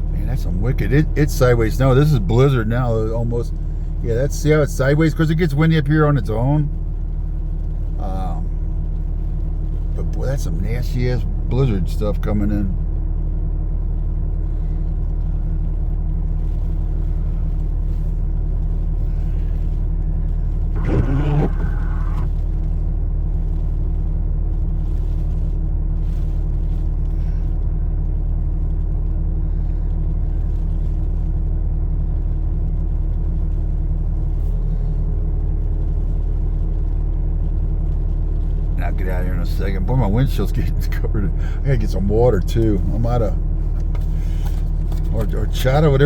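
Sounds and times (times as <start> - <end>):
vehicle engine idling: 0.0 - 46.0.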